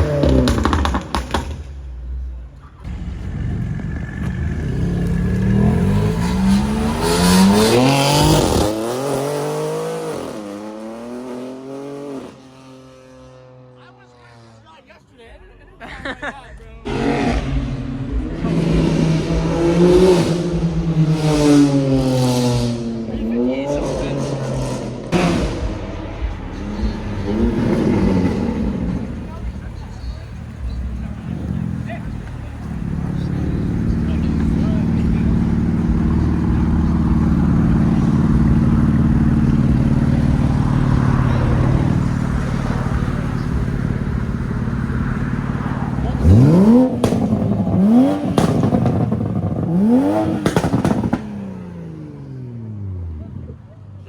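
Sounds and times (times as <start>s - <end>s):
car engine revving: 0.0s - 13.8s, 16.8s - 53.8s.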